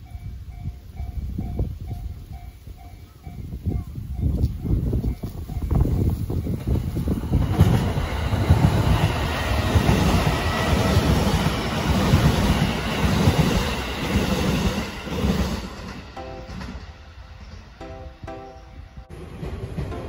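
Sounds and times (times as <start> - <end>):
train wheels rattling on rail: 0.0 - 20.0.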